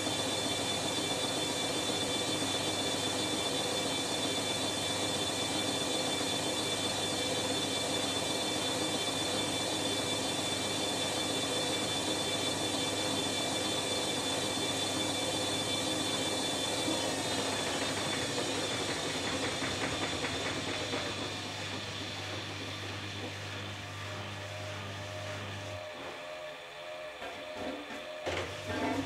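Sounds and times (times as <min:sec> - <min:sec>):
washing machine spinning with whine: 0:00.0 - 0:29.0.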